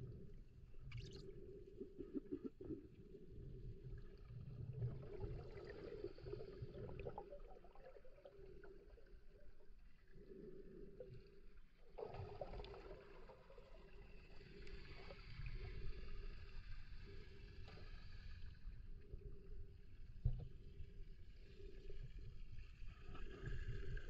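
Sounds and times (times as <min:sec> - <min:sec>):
underwater rumble: 0:00.0 - 0:24.0.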